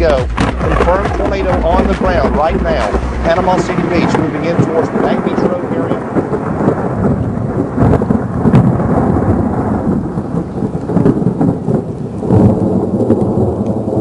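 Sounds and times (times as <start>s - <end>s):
rain: 0.0s - 14.0s
thunder rumbling: 0.0s - 14.0s
wind: 0.0s - 14.0s.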